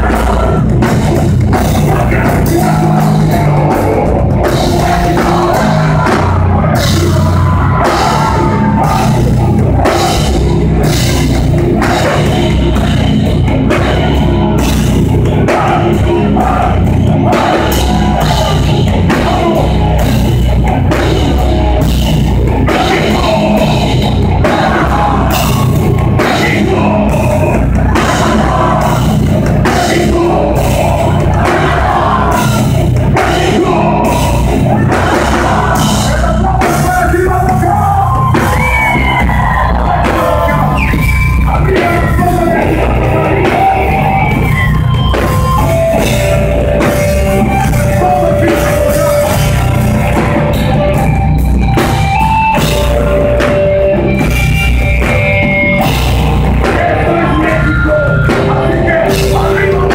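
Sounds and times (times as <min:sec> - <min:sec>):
heavy metal music: 0:00.0 - 0:59.9.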